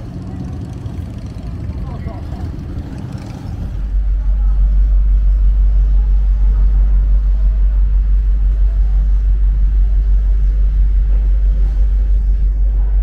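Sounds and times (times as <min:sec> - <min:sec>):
fluttering drone: 0:00.0 - 0:13.0
loud low rumble: 0:00.0 - 0:13.0.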